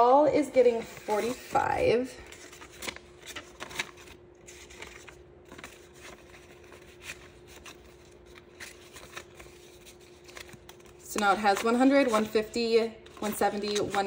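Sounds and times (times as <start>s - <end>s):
faint steady hum: 0.0s - 14.0s
banknotes rustling: 0.6s - 14.0s.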